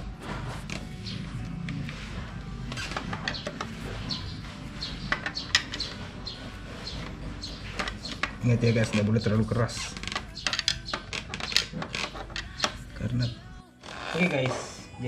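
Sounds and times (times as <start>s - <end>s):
small birds chirping: 0.7s - 13.5s.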